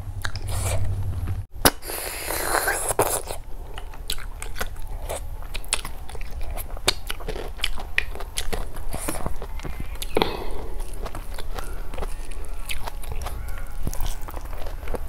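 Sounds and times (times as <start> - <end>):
chewing and biting food: 1.6 - 15.0.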